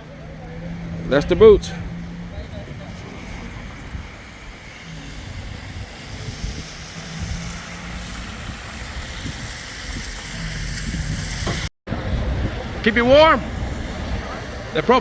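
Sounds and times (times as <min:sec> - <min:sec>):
rushing wind: 0:00.0 - 0:15.0
vehicle engine humming: 0:00.0 - 0:15.0.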